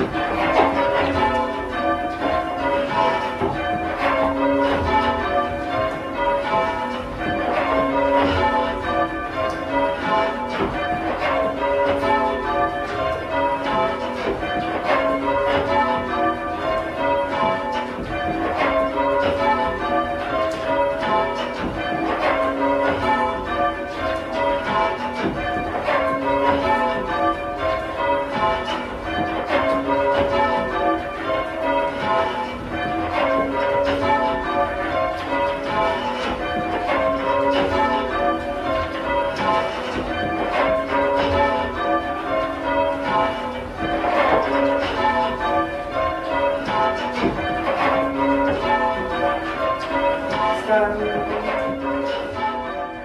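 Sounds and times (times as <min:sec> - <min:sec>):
church bells ringing: 0:00.0 - 0:53.0.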